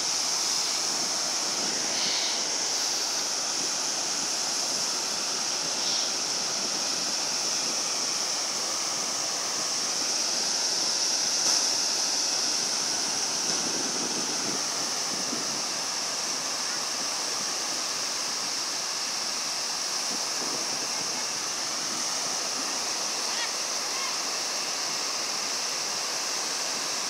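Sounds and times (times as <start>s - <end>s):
surf rushing on a beach: 0.0s - 27.0s.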